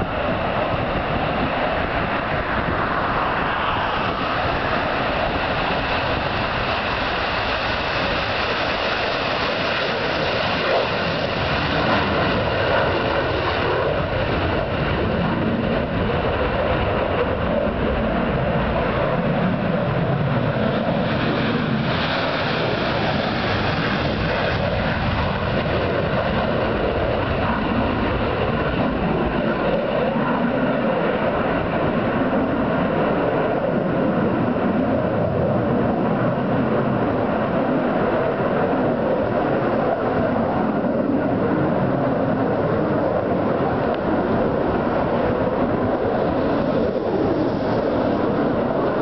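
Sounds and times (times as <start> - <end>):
fighter jet engines roaring: 0.0 - 49.0.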